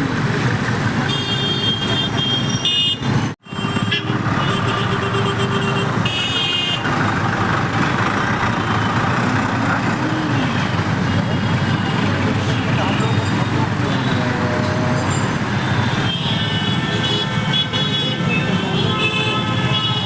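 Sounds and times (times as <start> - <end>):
vehicle engines running: 0.0 - 20.0
car horns honking: 1.0 - 20.0.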